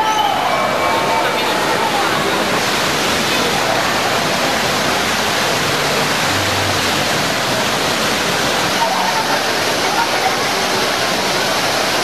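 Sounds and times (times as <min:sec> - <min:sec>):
fountain water rushing: 0:00.0 - 0:12.0.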